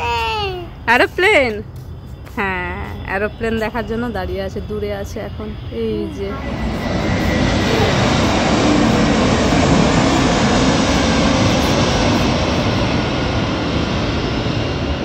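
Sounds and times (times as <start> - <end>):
airplane passing low overhead: 2.8 - 15.0.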